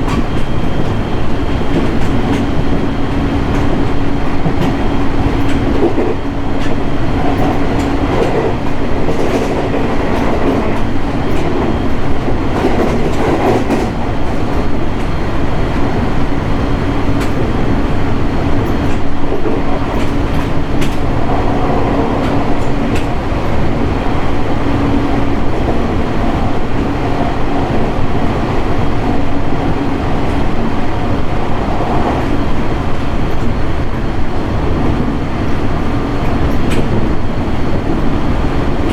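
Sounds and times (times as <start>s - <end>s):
electric train running noise: 0.0s - 38.9s.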